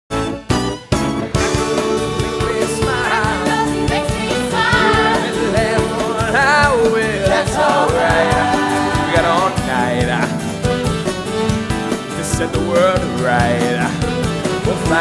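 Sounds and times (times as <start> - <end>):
band playing chords over beat: 0.1 - 15.0
voices singing: 1.4 - 11.2, 12.1 - 15.0.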